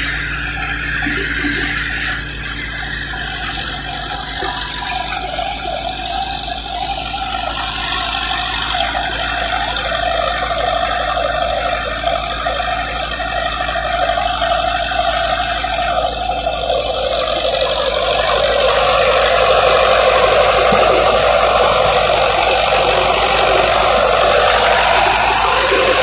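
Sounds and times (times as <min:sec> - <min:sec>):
harvester running: 0:00.0 - 0:26.0.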